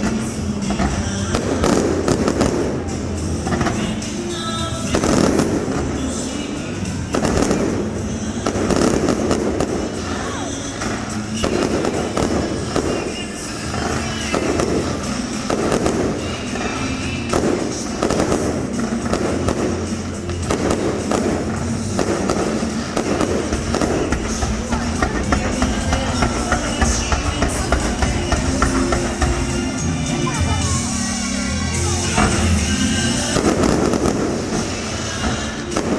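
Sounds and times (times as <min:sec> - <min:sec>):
fireworks bangs: 0:00.0 - 0:35.9
music on loudspeakers: 0:00.0 - 0:35.9.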